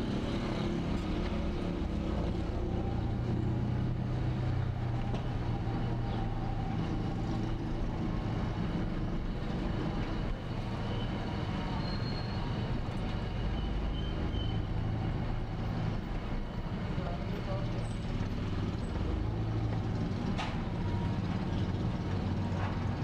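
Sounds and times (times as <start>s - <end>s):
road noise: 0.0s - 23.0s
vehicle engine hum: 0.0s - 23.0s.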